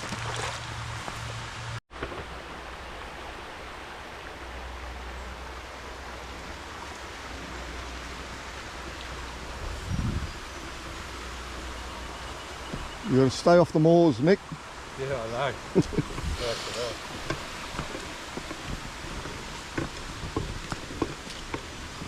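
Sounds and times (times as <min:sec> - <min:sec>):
steady hiss: 0:01.4 - 0:22.0.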